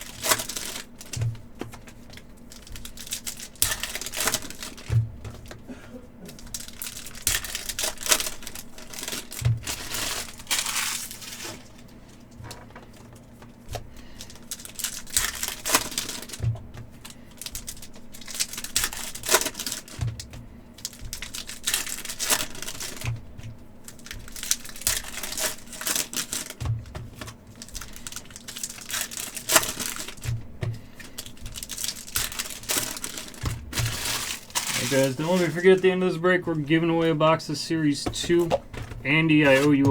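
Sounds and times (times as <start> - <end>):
cards rustling and clicking: 0.0 - 39.9
foil wrappers crinkling and tearing: 0.0 - 39.9.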